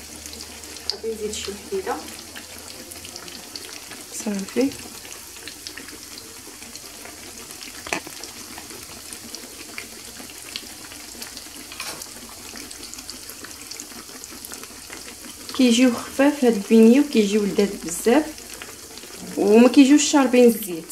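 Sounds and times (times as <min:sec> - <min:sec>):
dough frying in hot oil: 0:00.0 - 0:20.9.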